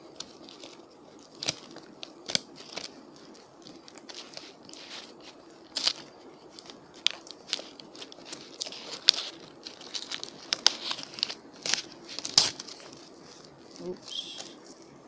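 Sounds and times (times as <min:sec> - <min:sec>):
plastic masking crinkling and snapping: 0:00.0 - 0:15.0.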